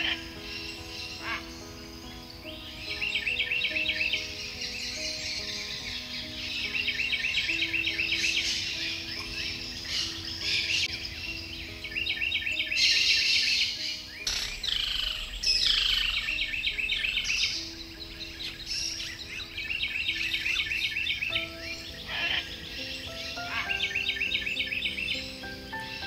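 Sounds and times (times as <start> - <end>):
birds chirping and trilling: 0.0 - 26.0
soft background music: 0.0 - 26.0.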